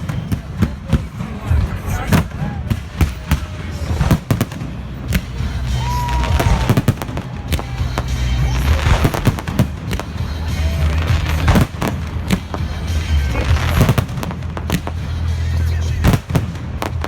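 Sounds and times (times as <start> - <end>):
firework bangs: 0.0 - 17.0
firework crackling: 0.0 - 17.0.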